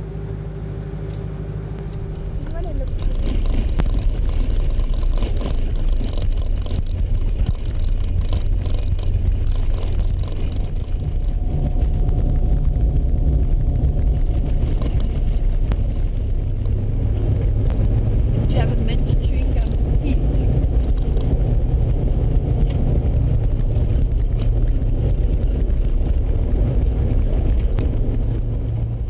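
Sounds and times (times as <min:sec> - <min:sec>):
vehicle engine and tyres rumbling: 0:00.0 - 0:29.0.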